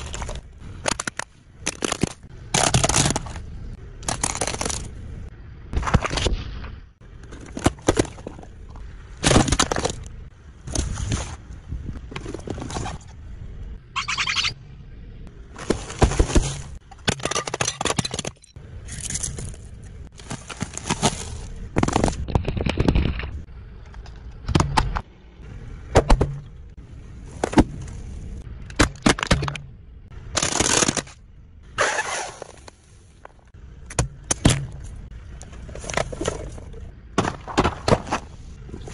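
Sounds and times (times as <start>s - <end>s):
car tyre crushing objects: 0.0s - 13.2s, 15.4s - 25.1s, 25.8s - 38.9s.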